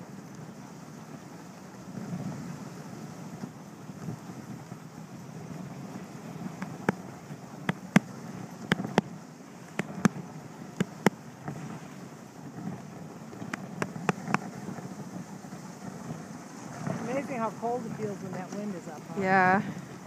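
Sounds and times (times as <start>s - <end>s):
sled rushing over snow: 0.0s - 20.0s
wind: 0.0s - 20.0s.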